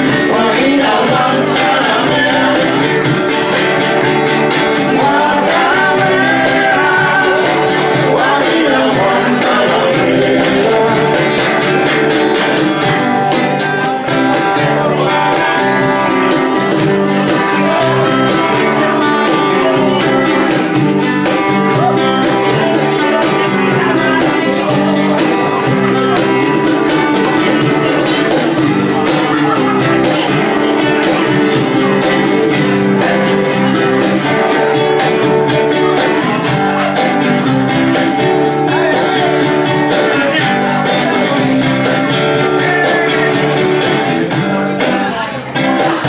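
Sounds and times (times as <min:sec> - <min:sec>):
acoustic duo playing a song: 0:00.0 - 0:46.0
acoustic guitar strumming: 0:00.0 - 0:46.0.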